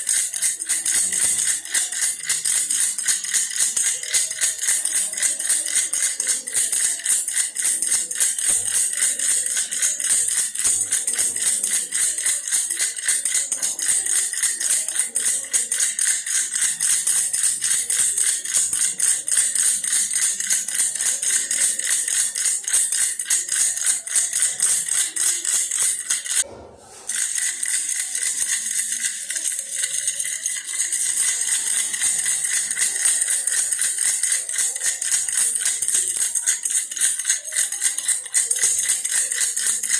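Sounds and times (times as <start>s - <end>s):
toy rattle shaking: 0.0s - 39.9s.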